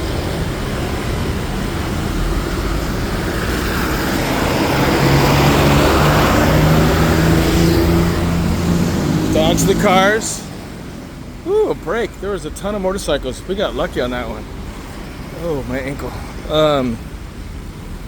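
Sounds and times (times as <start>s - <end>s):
motorcycles and cars passing: 0.0s - 18.0s
tyre noise on wet road: 0.0s - 18.0s.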